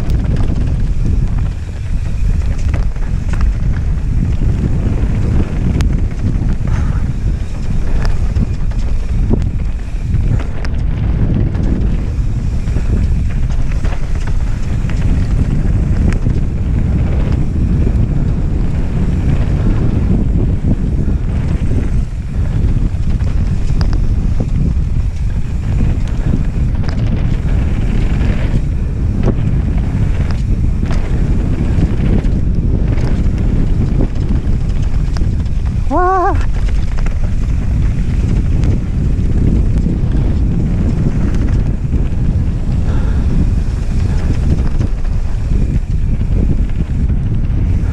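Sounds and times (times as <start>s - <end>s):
bike clicks and rattles: 0.0s - 47.9s
wind buffeting microphone: 0.0s - 47.9s.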